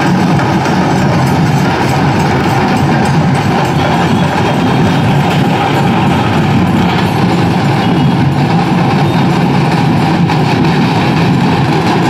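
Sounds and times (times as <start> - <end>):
crowd marching: 0.0 - 12.0.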